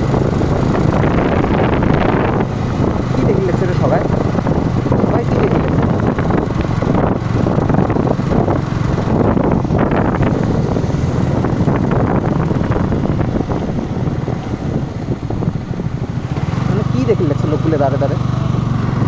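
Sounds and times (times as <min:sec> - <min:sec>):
motorcycle engine humming: 0:00.0 - 0:19.0
wind rushing over microphone: 0:00.0 - 0:19.0.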